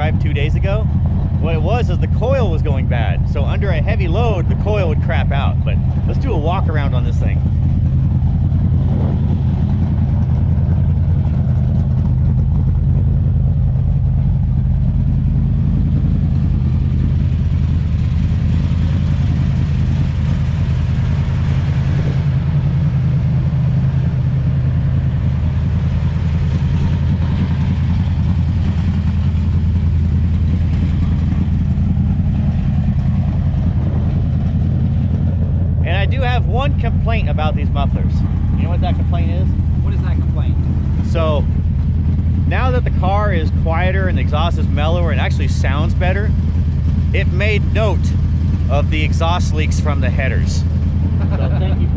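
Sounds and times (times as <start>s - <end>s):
car exhaust idling rumble: 0.0s - 51.9s.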